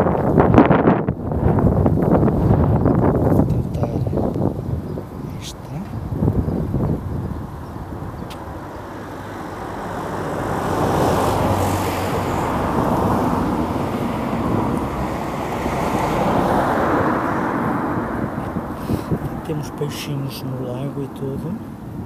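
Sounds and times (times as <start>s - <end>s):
passing vehicle rushing: 0.0s - 20.7s.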